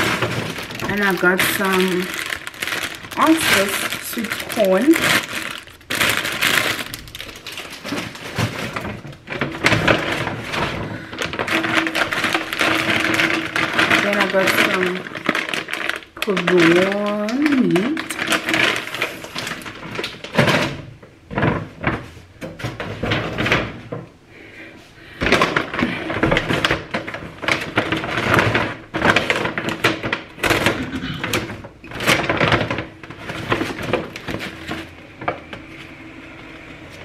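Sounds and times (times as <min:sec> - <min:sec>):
bags rustling and crinkling: 0:00.0 - 0:24.0, 0:25.1 - 0:36.1.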